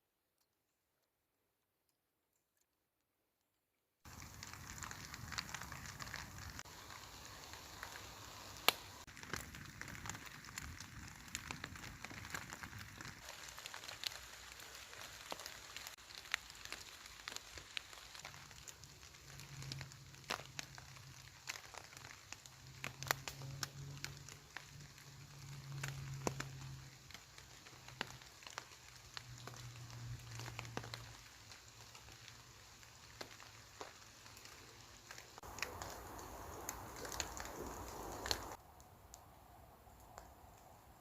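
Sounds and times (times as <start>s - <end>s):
campfire crackling: 4.0s - 41.0s.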